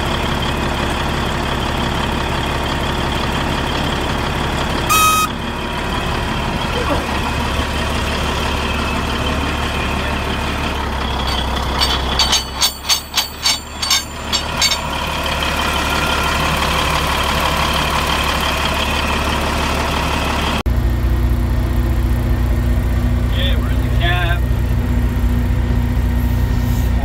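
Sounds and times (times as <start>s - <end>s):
large engine idling: 0.0s - 27.0s.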